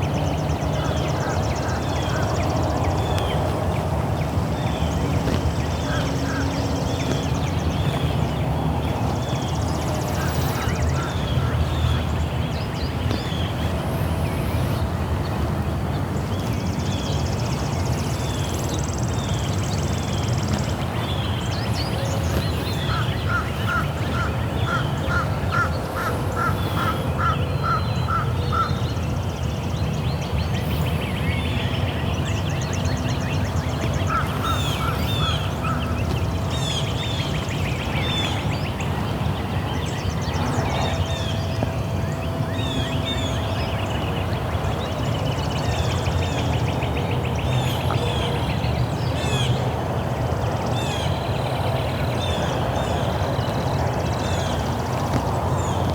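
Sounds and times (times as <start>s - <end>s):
birds chirping: 0.0s - 55.9s
steady low rumble: 1.1s - 47.6s.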